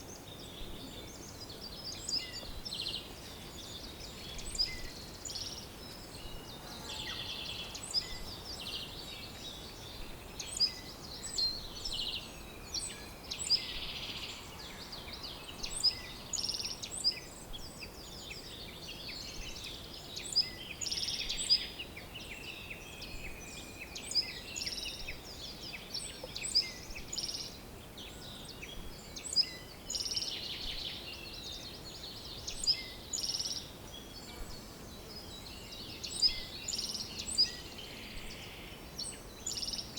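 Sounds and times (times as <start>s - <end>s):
faint background hiss: 0.0s - 39.9s
wild birds singing and calling: 0.0s - 39.9s.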